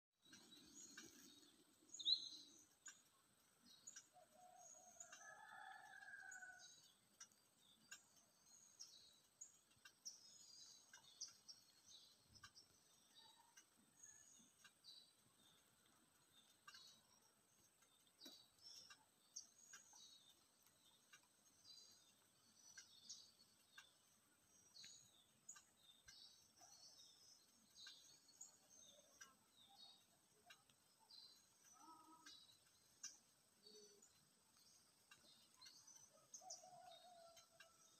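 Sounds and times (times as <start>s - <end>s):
faint birds chirping: 0.2s - 37.9s
soft clicks: 0.2s - 37.9s.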